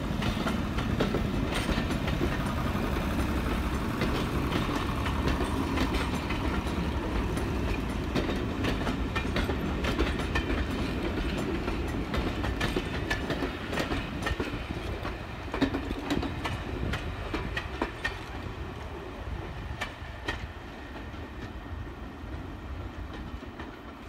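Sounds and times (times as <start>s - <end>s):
train coaches rumbling past: 0.0s - 24.0s
wheels clicking over rail joints: 0.0s - 24.0s.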